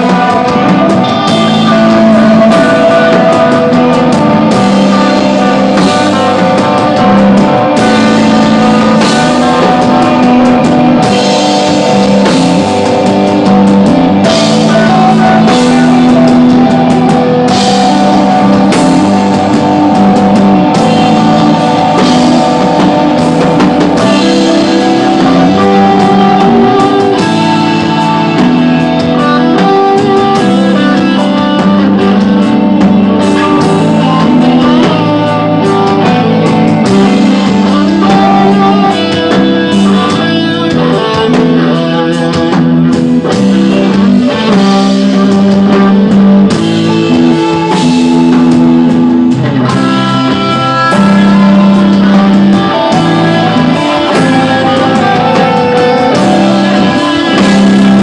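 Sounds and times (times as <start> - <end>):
bass: 0.0 - 58.0
electric guitars: 0.0 - 58.0.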